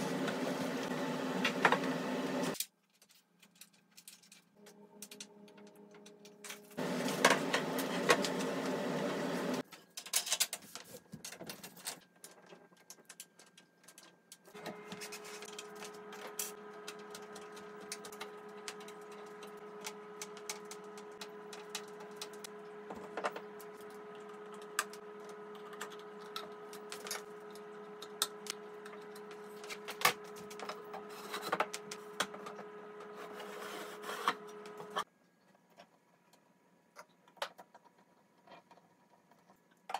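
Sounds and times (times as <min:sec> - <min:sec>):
steady mechanical hum: 0:00.0 - 0:02.6, 0:04.0 - 0:09.8, 0:10.8 - 0:36.8.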